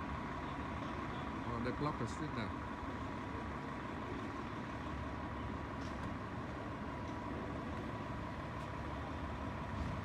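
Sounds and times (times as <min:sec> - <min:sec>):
vehicle engines idling: 0:00.0 - 0:10.0.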